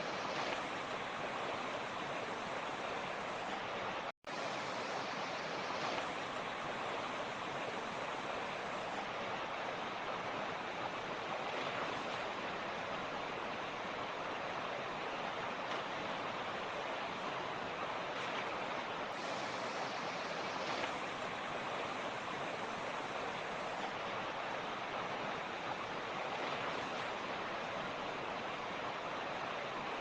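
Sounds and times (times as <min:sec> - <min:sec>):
creek flowing: 0:00.0 - 0:30.0.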